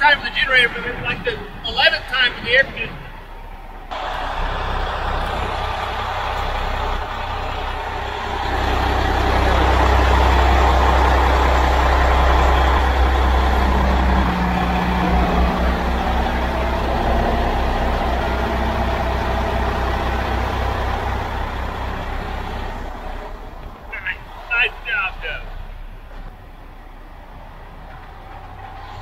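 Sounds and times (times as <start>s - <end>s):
engine-room machinery noise: 0.0s - 29.0s
generator humming: 0.0s - 29.0s.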